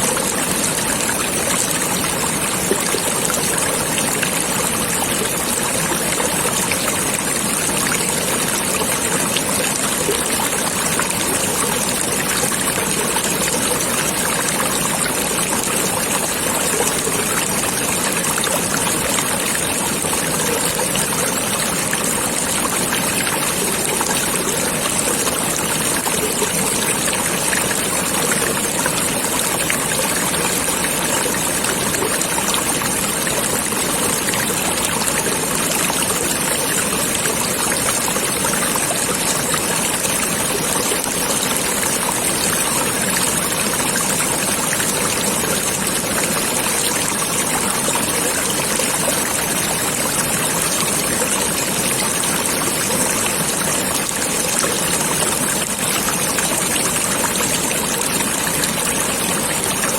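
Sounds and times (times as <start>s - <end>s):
stream water babbling: 0.0s - 59.9s.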